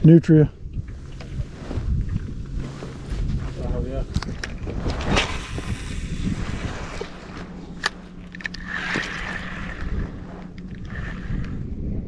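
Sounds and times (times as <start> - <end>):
boat motor humming: 0.0 - 12.0
wind noise on microphone: 0.0 - 12.0.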